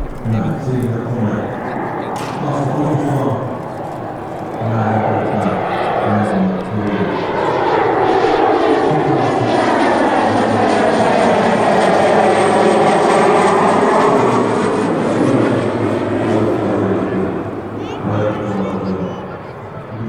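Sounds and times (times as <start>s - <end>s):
turboprop plane passing by: 0.0s - 20.0s.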